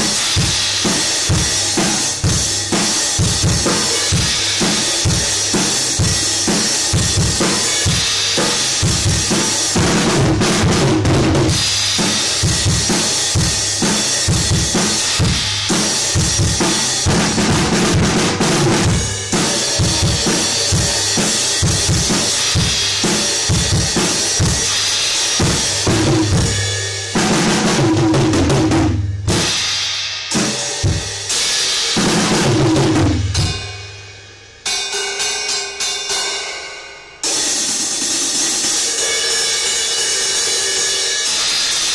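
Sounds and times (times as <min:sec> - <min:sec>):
drum kit groove: 0:00.0 - 0:41.9.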